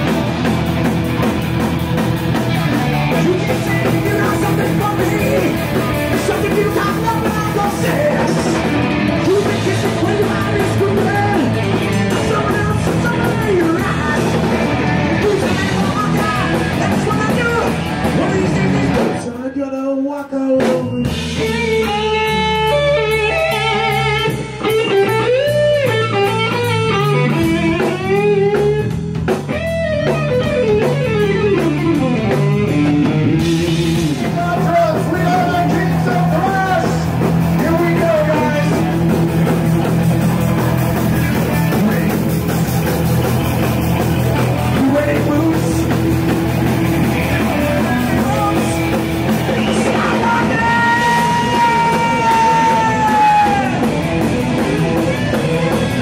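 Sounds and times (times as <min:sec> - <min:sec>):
wavering lead guitar notes: 0:00.0 - 0:19.3, 0:20.6 - 0:56.0
thrash metal band playing live: 0:00.0 - 0:56.0.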